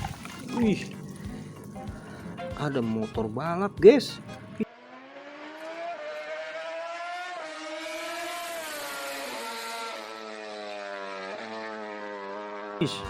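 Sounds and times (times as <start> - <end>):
racing motorcycle engine revving: 0.0 - 13.0.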